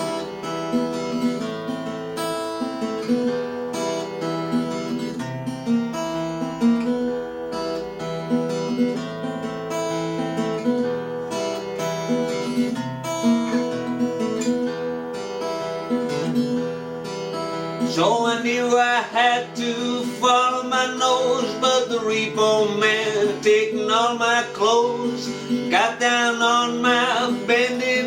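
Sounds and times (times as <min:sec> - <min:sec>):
acoustic guitar blues chords: 0:00.0 - 0:28.0.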